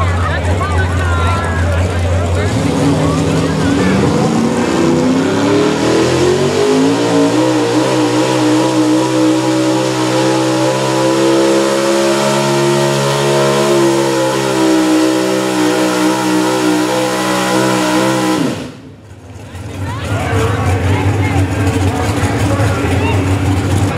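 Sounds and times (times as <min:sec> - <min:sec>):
truck engine revving under load: 0:00.0 - 0:23.9.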